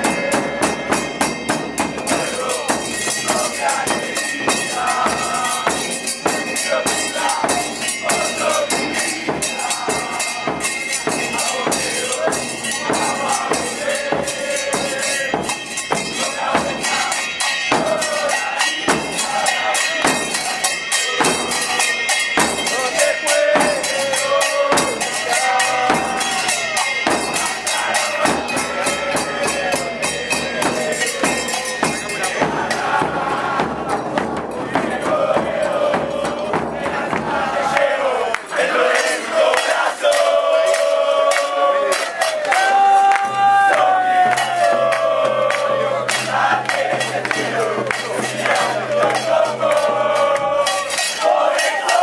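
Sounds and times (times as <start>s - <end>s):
crowd singing: 0.0s - 52.0s
drums and percussion beat: 0.0s - 52.0s.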